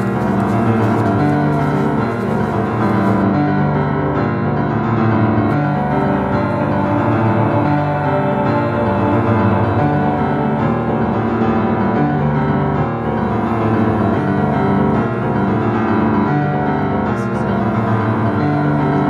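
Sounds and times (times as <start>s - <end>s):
piano background music: 0.0s - 19.0s.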